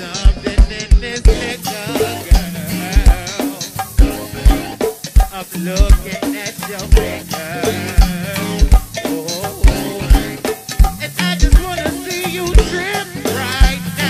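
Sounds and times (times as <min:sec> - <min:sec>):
go-go band music: 0:00.0 - 0:14.0.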